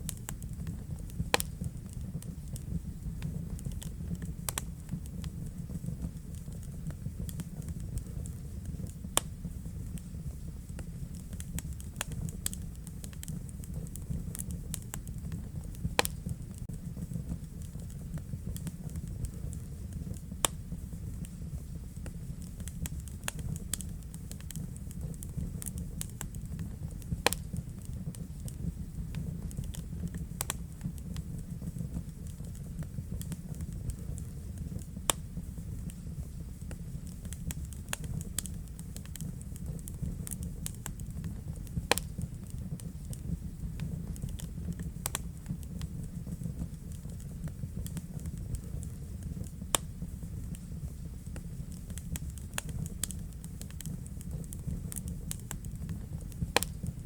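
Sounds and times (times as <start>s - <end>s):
low rumble of fire: 0.0s - 57.0s
wood fire crackling and popping: 0.0s - 57.0s.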